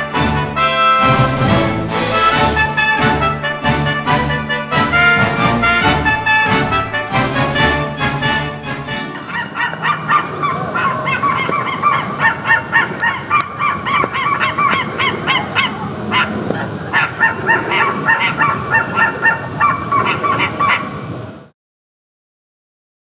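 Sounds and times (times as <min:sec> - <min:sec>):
birds honking calls: 0:00.6 - 0:21.1.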